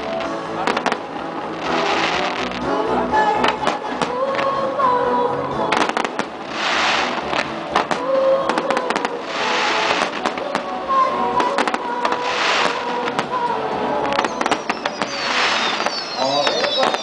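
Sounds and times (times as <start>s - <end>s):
fireworks bangs: 0.0s - 2.6s, 5.7s - 17.0s
fireworks crackling: 0.0s - 4.8s, 5.4s - 17.0s.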